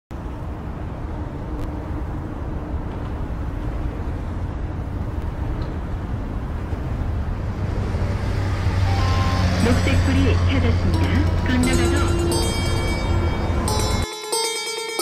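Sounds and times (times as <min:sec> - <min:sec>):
low rumble of passing vehicles: 0:00.1 - 0:14.1.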